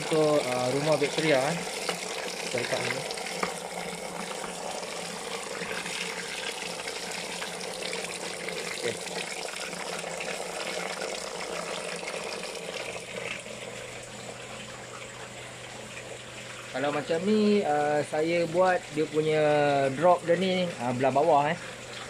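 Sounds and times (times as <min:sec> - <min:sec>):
water pouring and splashing: 0:00.0 - 0:22.0.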